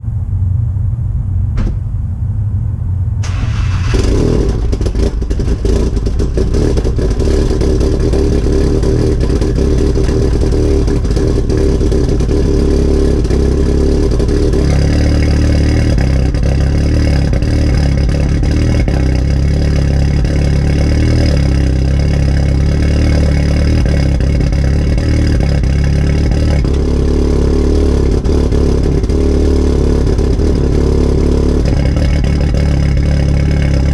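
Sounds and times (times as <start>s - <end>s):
car engine idling loudly: 3.2s - 33.9s.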